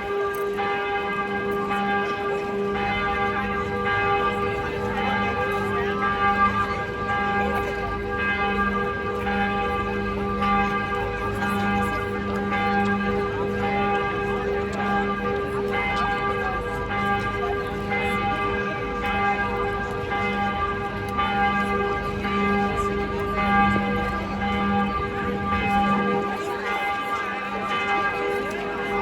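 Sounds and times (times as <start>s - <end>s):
church bells ringing: 0.0s - 29.0s.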